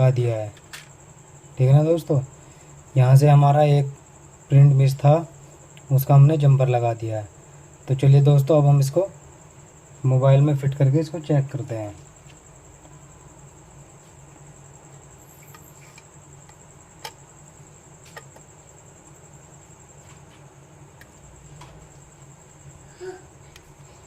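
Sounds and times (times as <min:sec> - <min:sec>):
low electrical hum: 0:00.0 - 0:24.0
thin high-pitched whine: 0:00.0 - 0:24.0.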